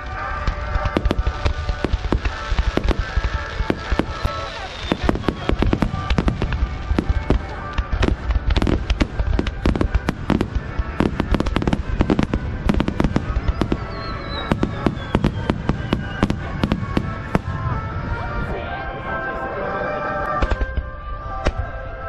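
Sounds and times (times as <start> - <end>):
fireworks bursting: 0.0 - 18.6, 20.3 - 21.6.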